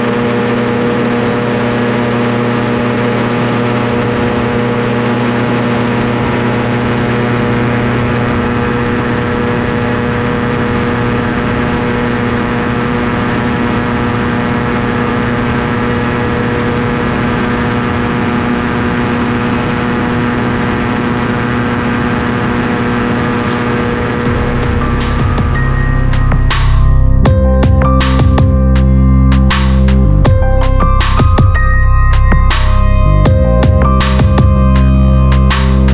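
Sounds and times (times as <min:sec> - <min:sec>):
aircraft engine droning: 0:00.0 - 0:35.9
rushing air: 0:02.7 - 0:35.9.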